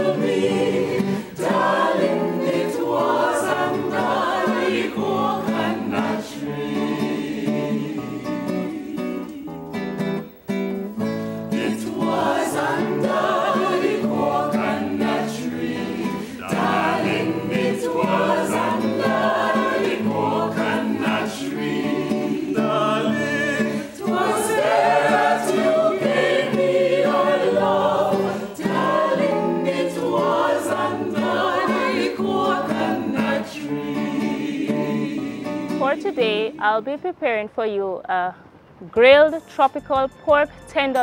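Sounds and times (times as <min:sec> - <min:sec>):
mixed choir singing in harmony: 0:00.0 - 0:36.8.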